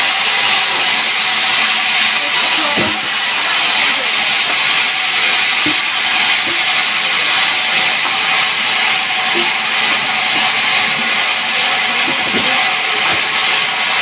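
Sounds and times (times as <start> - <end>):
sawmill machinery hissing: 0.0 - 14.0.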